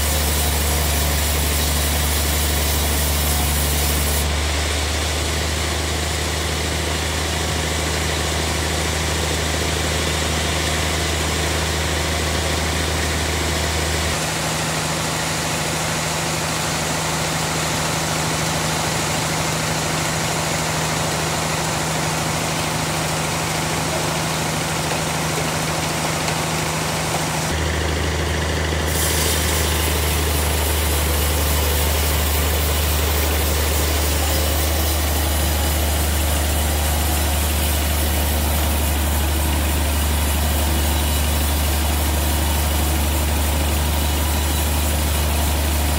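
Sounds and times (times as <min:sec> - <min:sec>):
band saw low hum: 0:00.0 - 0:15.0, 0:20.9 - 0:45.9.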